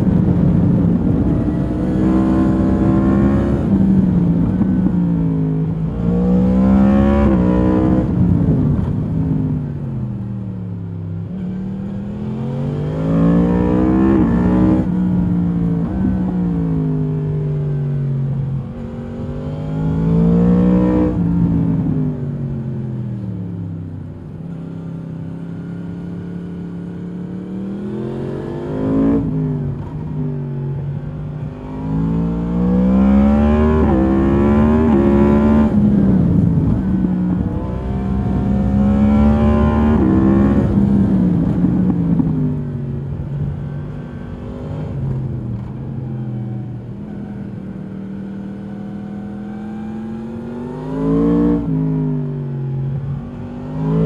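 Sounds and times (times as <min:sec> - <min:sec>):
motorcycle engine revving: 0:00.0 - 0:09.8, 0:11.2 - 0:22.6, 0:24.5 - 0:54.0.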